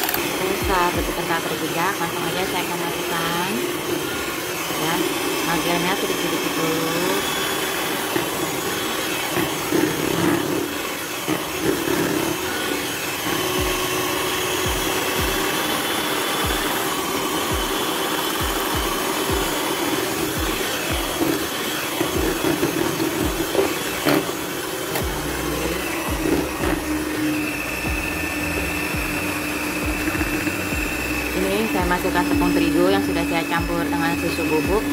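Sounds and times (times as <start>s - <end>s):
electric hand mixer whipping batter: 0.0s - 34.9s.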